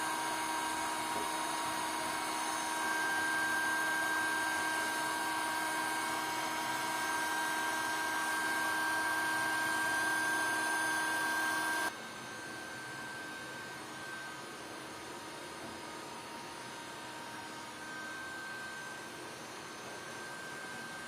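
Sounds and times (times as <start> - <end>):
power tool whining: 0.0 - 21.0.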